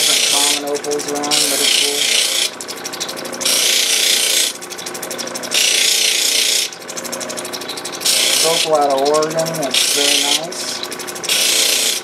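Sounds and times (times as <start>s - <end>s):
stone rasping on grinding wheel: 0.0s - 12.0s
fast ticking: 0.1s - 12.0s.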